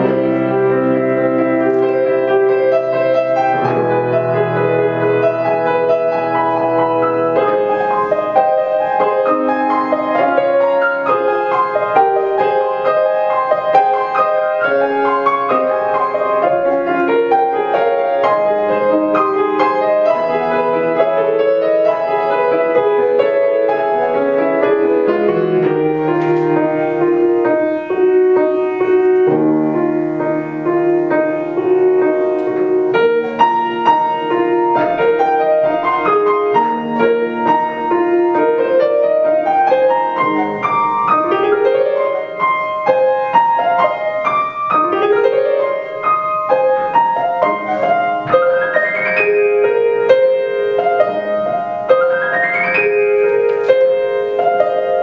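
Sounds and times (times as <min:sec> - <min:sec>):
two pianos playing classical duet: 0:00.0 - 0:55.0.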